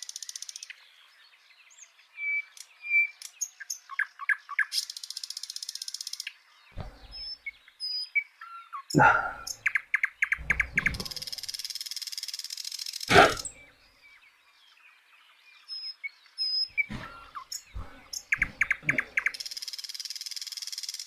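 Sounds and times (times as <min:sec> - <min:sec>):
bird chirping and trilling: 0:01.8 - 0:14.2, 0:14.8 - 0:21.0.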